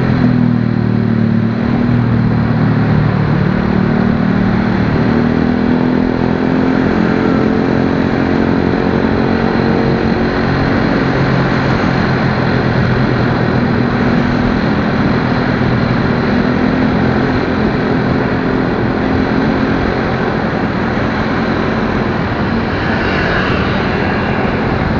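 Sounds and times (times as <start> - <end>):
motorcycle engine running: 0.0 - 24.9
wind and road noise: 0.0 - 24.9.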